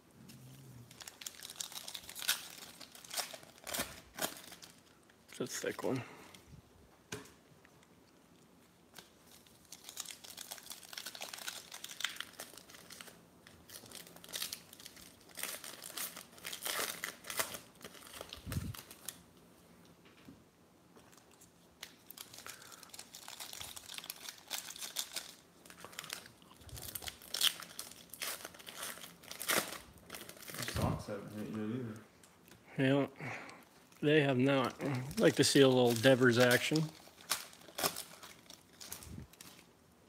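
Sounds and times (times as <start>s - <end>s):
foil wrapper crinkling and tearing: 0.9s - 6.0s, 8.8s - 19.3s, 21.1s - 31.4s, 33.6s - 39.9s.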